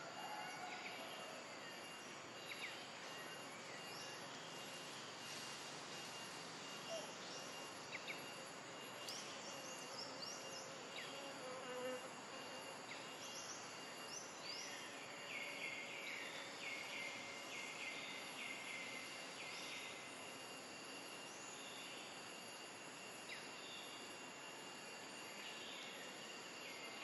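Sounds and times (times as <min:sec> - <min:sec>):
insects high whine: 0:00.0 - 0:27.0
rhythmic high insect chirps: 0:00.0 - 0:27.0.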